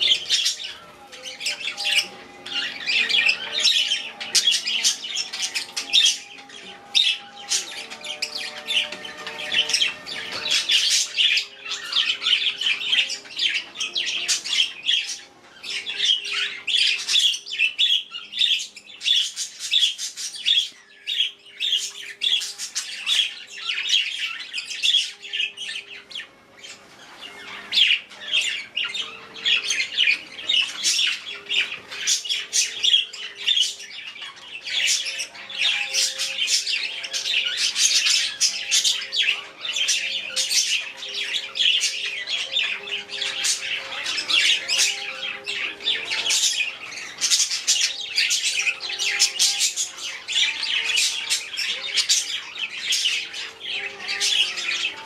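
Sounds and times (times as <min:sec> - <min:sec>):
budgerigars and cockatiel chirping: 0:00.0 - 0:55.0.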